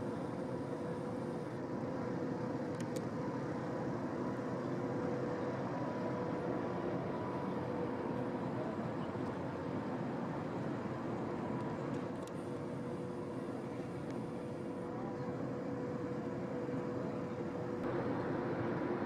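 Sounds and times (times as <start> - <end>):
machine drone with whine: 0.0 - 19.0.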